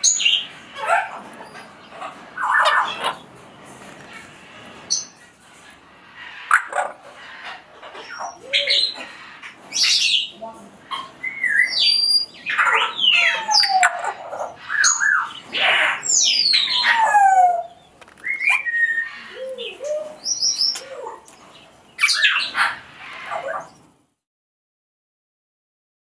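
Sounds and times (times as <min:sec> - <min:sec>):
parrots whistling and squawking: 0:00.0 - 0:03.4, 0:04.1 - 0:21.2, 0:22.0 - 0:23.8.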